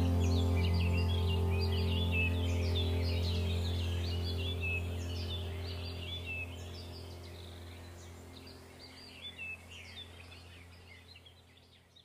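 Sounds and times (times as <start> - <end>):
steady low hum: 0.0 - 11.8
small birds chirping: 0.0 - 12.0.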